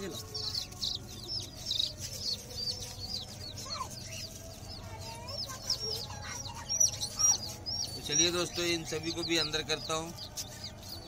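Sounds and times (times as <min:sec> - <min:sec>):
bird chicks peeping: 0:00.0 - 0:11.0.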